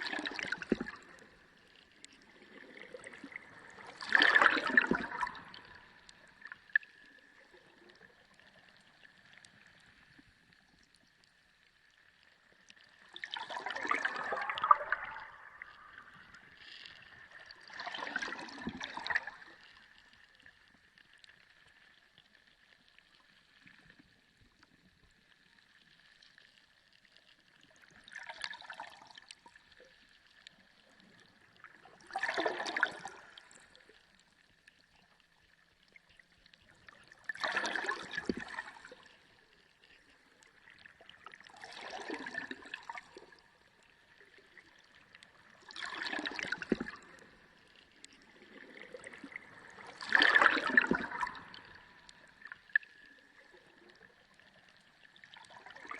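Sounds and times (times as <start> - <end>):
underwater water rushes: 0.0 - 55.9.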